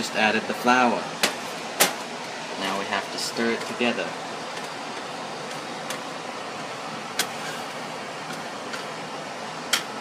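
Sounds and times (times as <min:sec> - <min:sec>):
steady rushing background noise: 0:00.0 - 0:10.0.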